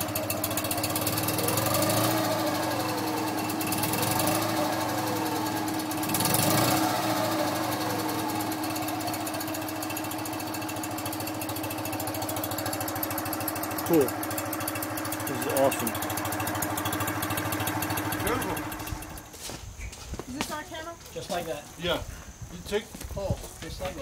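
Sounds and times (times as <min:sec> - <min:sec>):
motorcycle engine revving and idling: 0:00.0 - 0:19.4.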